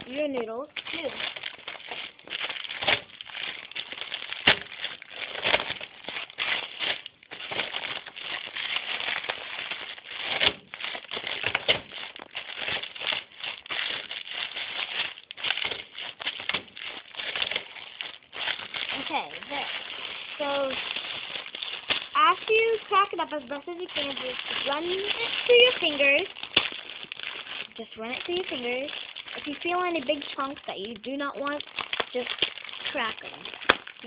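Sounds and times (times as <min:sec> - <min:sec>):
dry noodles crackling and snapping: 0:00.0 - 0:34.0.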